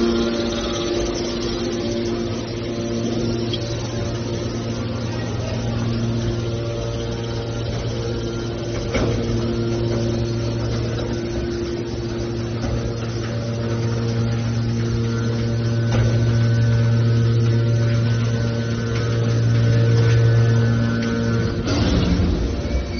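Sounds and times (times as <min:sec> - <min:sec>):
hydraulic motor and pump humming: 0:00.0 - 0:22.9.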